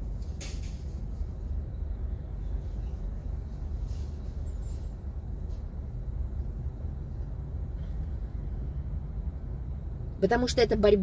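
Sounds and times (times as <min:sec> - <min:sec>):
car idling low rumble: 0:00.0 - 0:11.0.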